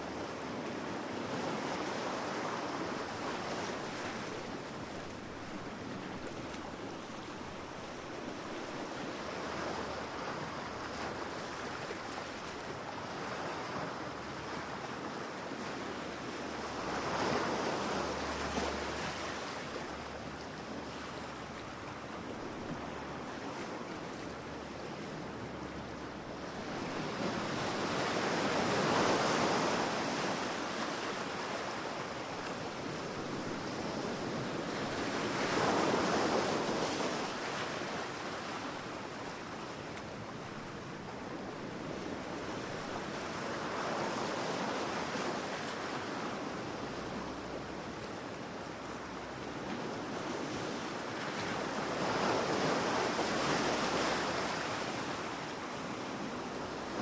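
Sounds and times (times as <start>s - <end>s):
ocean waves breaking on a beach: 0.0s - 57.0s.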